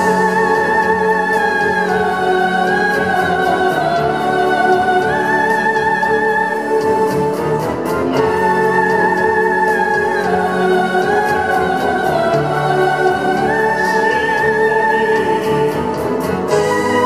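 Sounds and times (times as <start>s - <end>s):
orchestral backing track: 0.0s - 17.0s
piano: 0.0s - 17.0s
soprano singing with vibrato: 0.0s - 17.0s.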